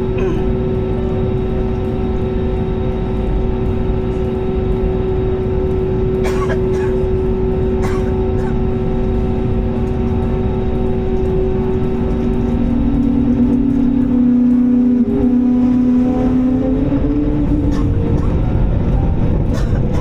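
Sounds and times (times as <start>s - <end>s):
jet engines roaring in cabin: 0.0s - 20.0s.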